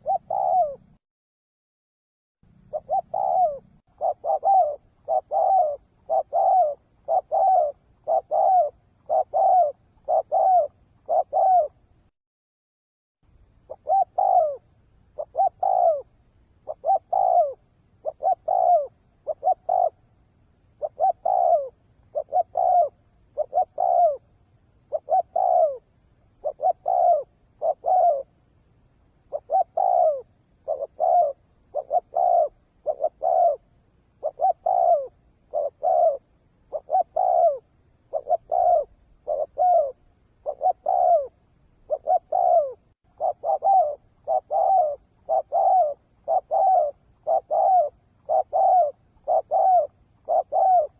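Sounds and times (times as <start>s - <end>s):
dove cooing: 0.0s - 1.0s, 2.5s - 11.9s, 13.6s - 28.4s, 29.2s - 50.9s.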